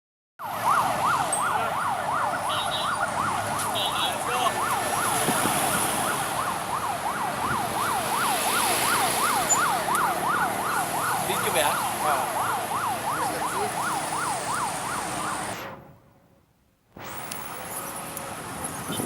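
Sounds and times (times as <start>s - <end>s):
electronic siren yelping: 0.4s - 15.8s.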